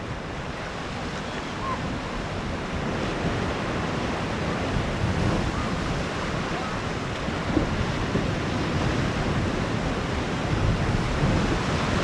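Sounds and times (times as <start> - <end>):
sea waves washing onto shore: 0.0 - 12.0
wind on microphone: 0.0 - 12.0.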